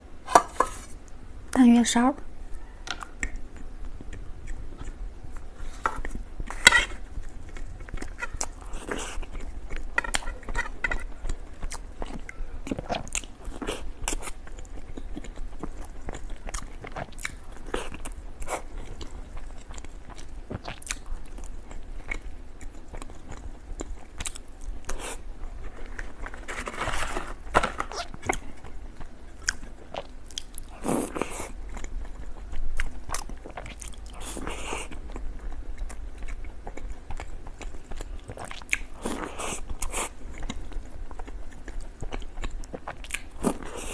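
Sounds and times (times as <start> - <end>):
person biting and chewing crunchily: 3.0 - 43.9.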